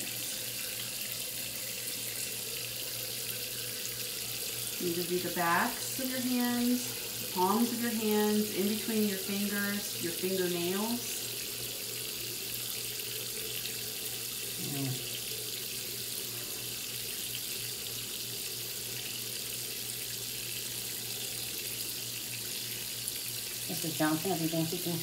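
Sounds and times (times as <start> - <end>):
water running from faucet into sink: 0.0 - 25.0.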